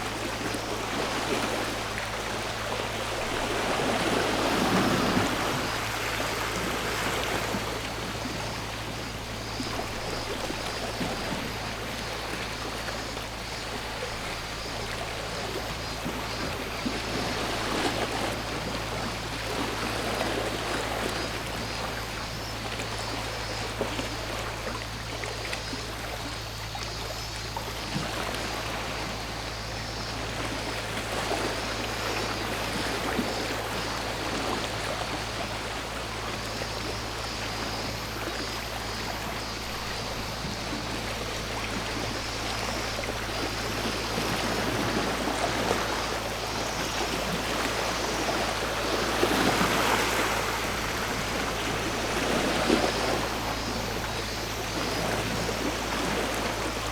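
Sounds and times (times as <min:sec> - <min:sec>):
high cicada drone: 0:00.0 - 0:56.9
sea waves washing over shore: 0:00.0 - 0:56.9.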